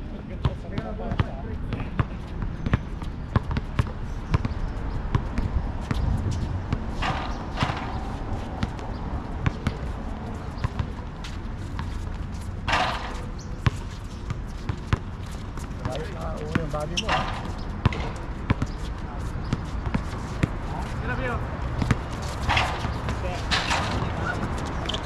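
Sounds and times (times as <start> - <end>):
basketball bouncing on asphalt: 0.8 - 25.0.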